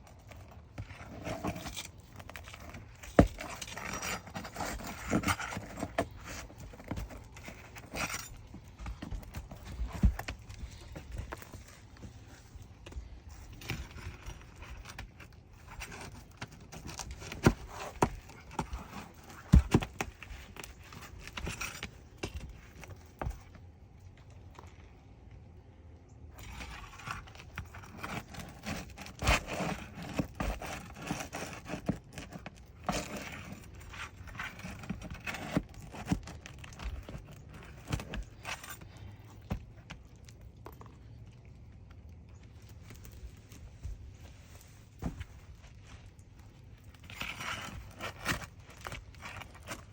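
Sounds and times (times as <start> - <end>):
pry bar scraping shingles: 0.0 - 23.6, 26.4 - 41.2, 46.1 - 49.9.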